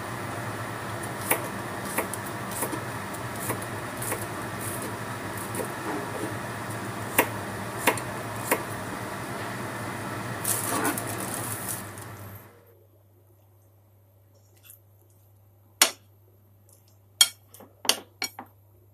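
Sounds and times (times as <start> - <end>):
steady background hum: 0.0 - 18.9.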